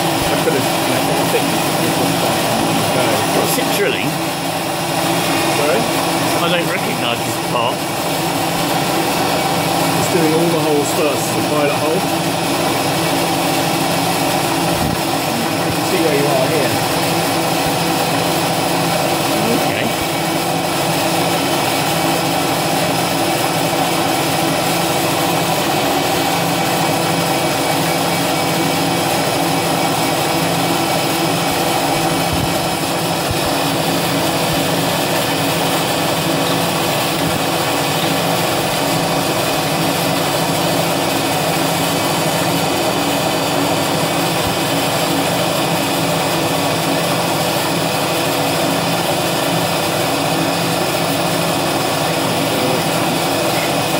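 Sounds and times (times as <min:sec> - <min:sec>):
milling machine whine: 0:00.0 - 0:53.9.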